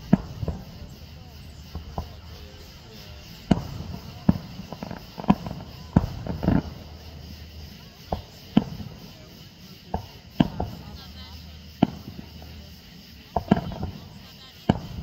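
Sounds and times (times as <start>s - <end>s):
fireworks bursting overhead: 0.0s - 15.0s.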